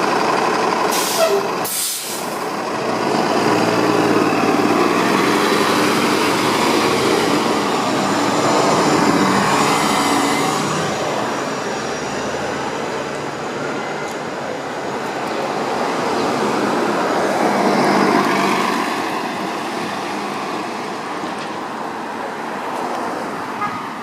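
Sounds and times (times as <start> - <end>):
bus pulling away: 0.0 - 22.6
diesel bus driving past: 0.0 - 24.0.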